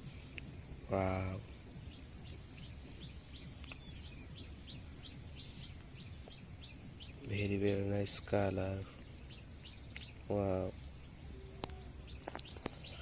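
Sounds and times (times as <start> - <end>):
bird chirping: 0.0 - 13.0
low background hum: 0.0 - 13.0.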